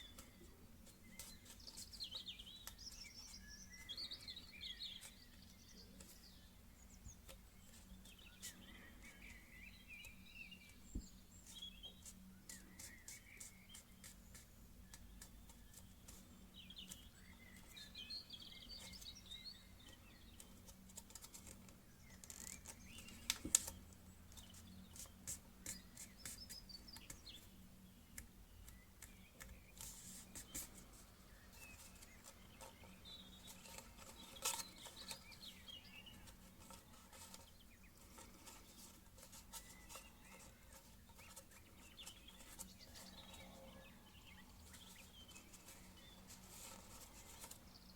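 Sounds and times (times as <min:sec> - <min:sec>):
faint bird chirps: 0:00.0 - 0:47.9.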